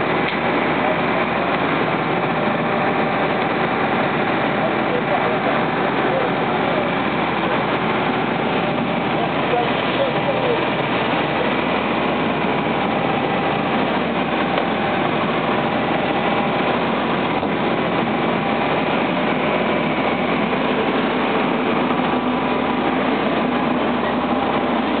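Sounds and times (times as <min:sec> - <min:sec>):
boat engine drone: 0:00.0 - 0:25.0
rushing water: 0:00.0 - 0:25.0
wind: 0:00.0 - 0:25.0.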